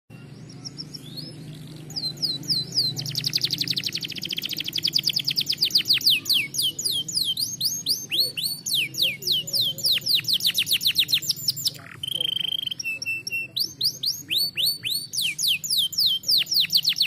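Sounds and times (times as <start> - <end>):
canary singing trills: 0.1 - 17.0.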